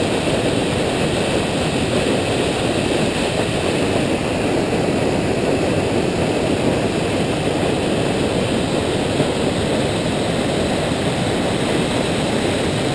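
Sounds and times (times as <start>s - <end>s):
water rushing over a spillway: 0.0s - 12.9s.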